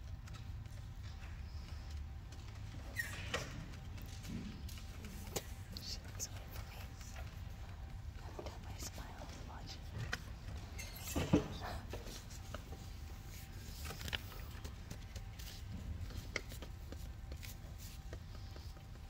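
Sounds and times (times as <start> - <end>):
clicks and rustles of people moving: 0.0 - 19.0.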